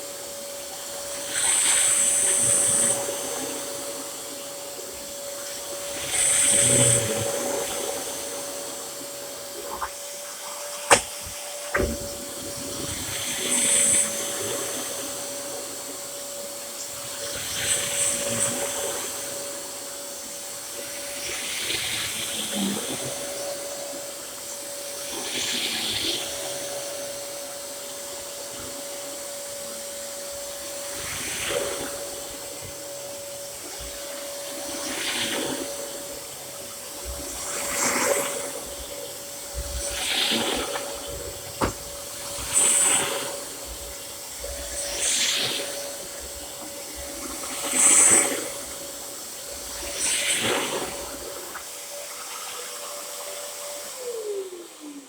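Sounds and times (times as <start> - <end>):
upright vacuum cleaner whining: 0.0 - 55.0.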